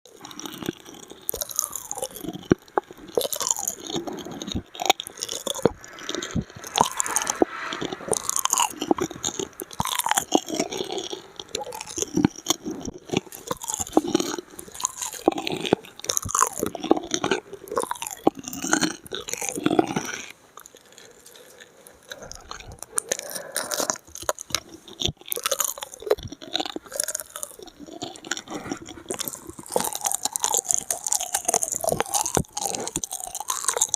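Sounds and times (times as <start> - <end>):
wet mouth clicks and chewing: 0.0 - 33.9.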